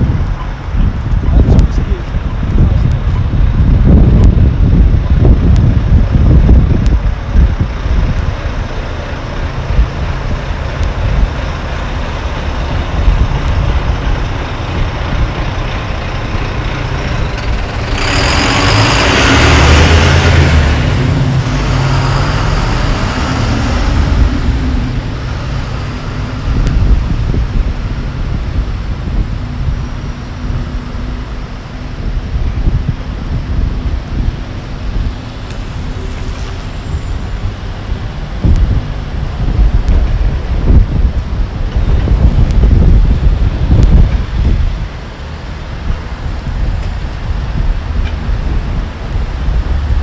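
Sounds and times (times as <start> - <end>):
heavy vehicle passing close: 0.0 - 50.0
traffic on wet street: 0.0 - 50.0
wind rumble on microphone: 0.0 - 50.0.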